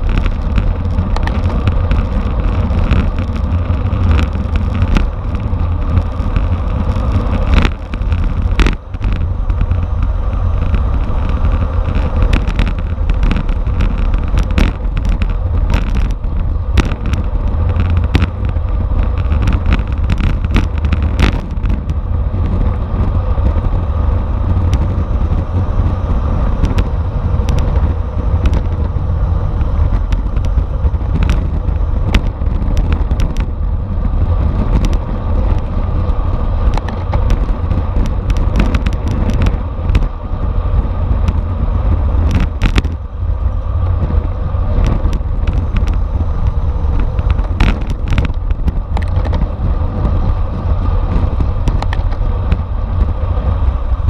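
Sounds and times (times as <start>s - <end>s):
bicycle clicks and knocks: 0.0s - 54.0s
wind rushing over microphone: 0.0s - 54.0s.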